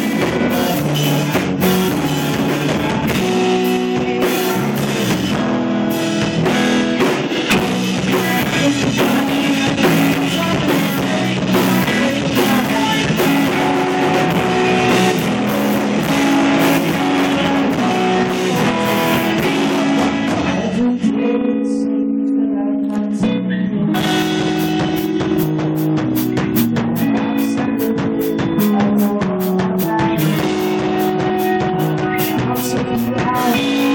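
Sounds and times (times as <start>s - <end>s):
drum kit: 0.0s - 21.2s, 23.9s - 33.9s
electric guitar ringing: 0.0s - 33.9s
rock band playing live: 0.0s - 33.9s.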